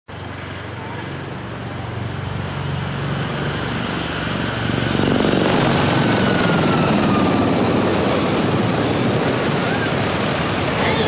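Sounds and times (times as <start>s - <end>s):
helicopter turbine and rotor noise: 0.1s - 11.0s
high turbine whine falling in pitch: 0.1s - 11.0s.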